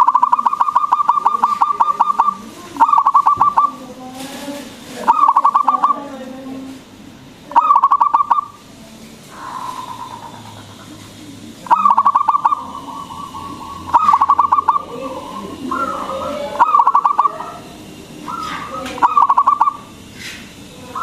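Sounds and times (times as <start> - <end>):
dove cooing: 0.0 - 6.8, 7.4 - 21.0.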